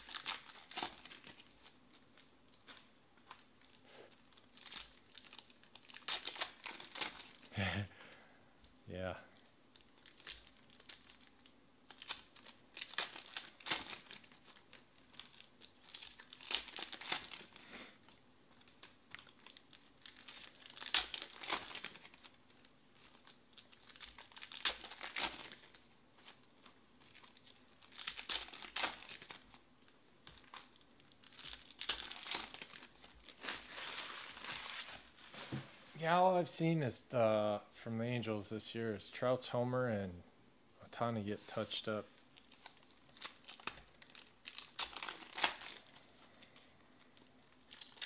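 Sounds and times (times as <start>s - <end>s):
foil wrappers crinkling and tearing: 0.0s - 7.9s, 9.4s - 35.6s, 41.6s - 48.0s.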